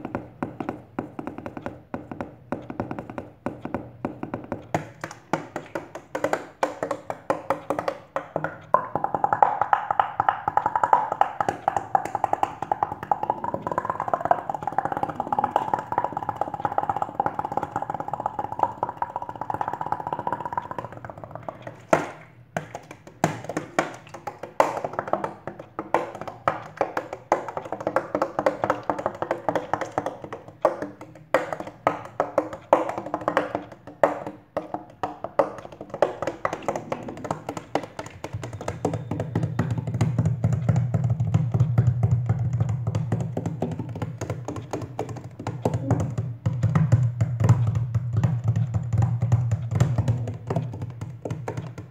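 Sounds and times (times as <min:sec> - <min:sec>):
hands drumming on plastic bottle: 0:00.0 - 0:51.9.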